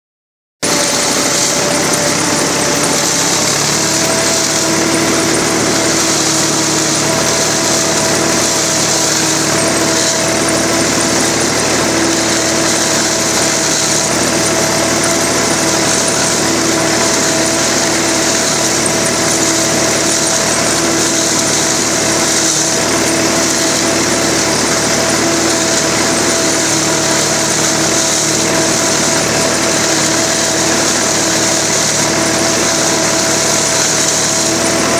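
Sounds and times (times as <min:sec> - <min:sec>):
tractor engine and corn picker: 0:00.6 - 0:34.9.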